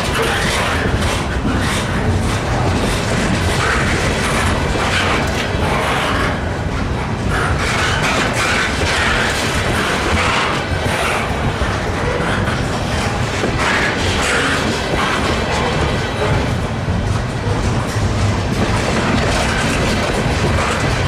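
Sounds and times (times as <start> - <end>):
freight train wheels rumbling: 0.0 - 21.0
wheels clattering over rail joints: 0.0 - 21.0.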